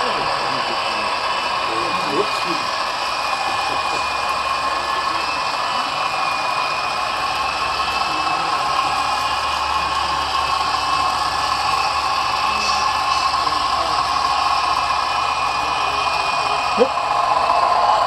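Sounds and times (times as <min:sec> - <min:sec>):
model locomotive mechanical drone: 0:00.0 - 0:18.0.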